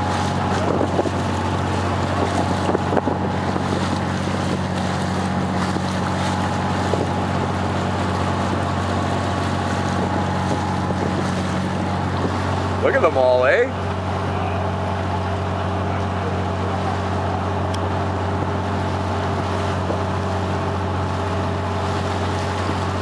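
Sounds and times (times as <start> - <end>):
boat engine humming: 0.0 - 23.0
short water splashes: 0.0 - 23.0
water washing past hull: 0.0 - 23.0.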